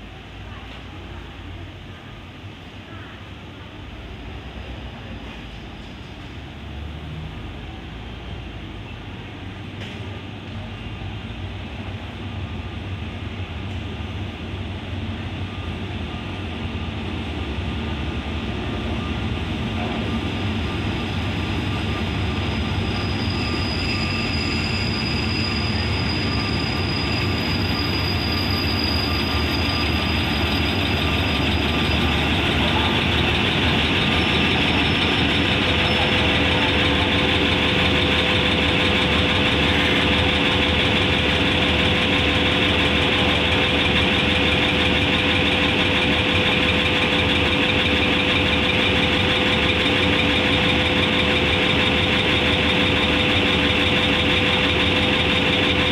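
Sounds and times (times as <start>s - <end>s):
diesel locomotive engine running: 0.0s - 55.9s.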